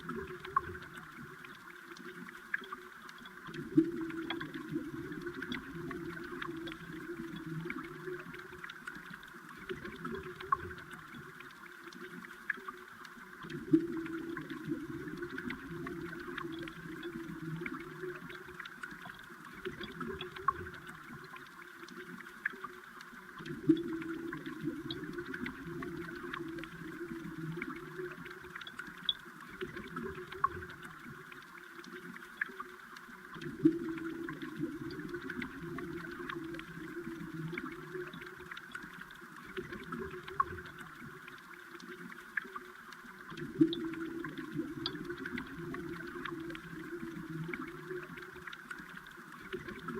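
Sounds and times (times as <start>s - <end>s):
small clicks underwater: 0.0s - 49.9s
underwater bubbling rush: 0.0s - 49.9s.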